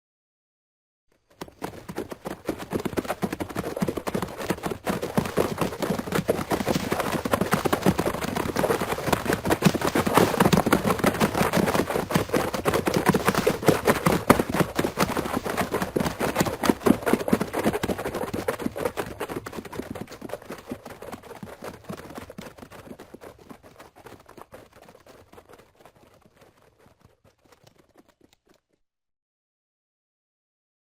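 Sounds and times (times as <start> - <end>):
cattle hooves trampling dirt: 1.4 - 28.6.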